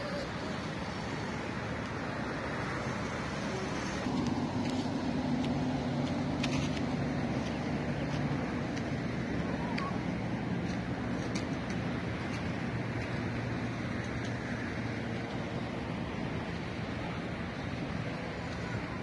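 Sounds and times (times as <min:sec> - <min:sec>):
low engine hum: 0:00.0 - 0:19.0
road traffic noise: 0:00.0 - 0:19.0.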